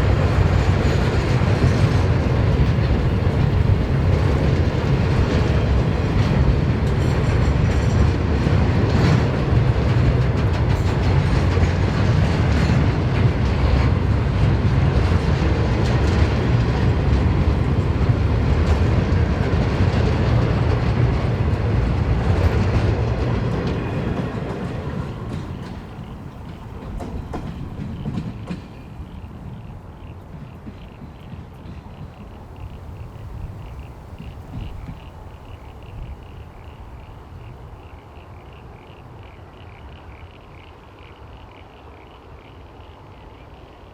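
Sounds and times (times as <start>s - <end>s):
freight train wheels rumbling on rails: 0.0s - 43.9s.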